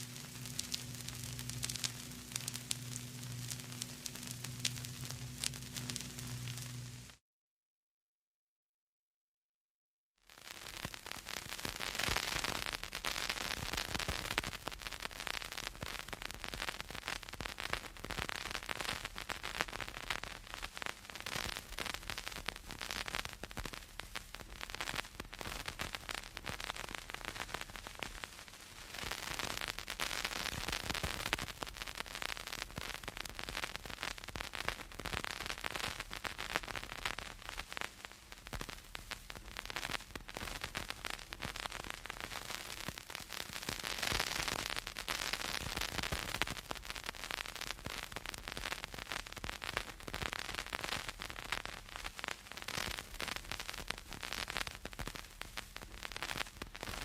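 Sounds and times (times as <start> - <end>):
record surface hiss: 0.0 - 7.2, 10.3 - 57.0
vinyl record crackles and pops: 0.0 - 7.2, 10.2 - 57.0.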